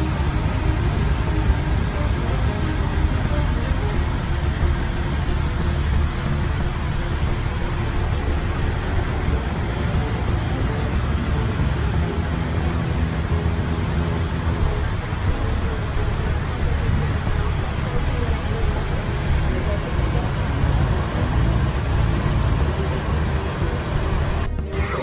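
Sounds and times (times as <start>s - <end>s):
airliner cockpit engine noise: 0.0s - 25.0s.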